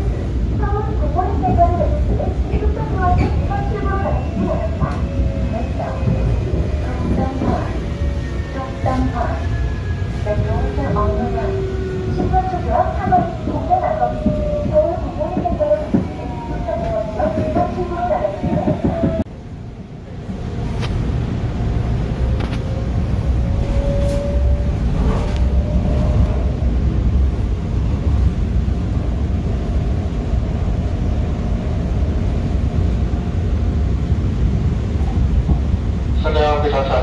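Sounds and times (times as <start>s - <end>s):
subway train rumble: 0.0s - 37.0s.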